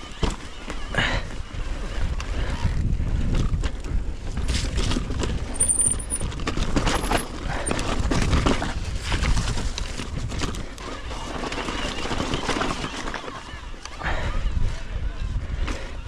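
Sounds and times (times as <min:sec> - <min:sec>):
bike tyres crunching over rock: 0:00.0 - 0:13.7
bike rattling and clicking: 0:00.0 - 0:16.0.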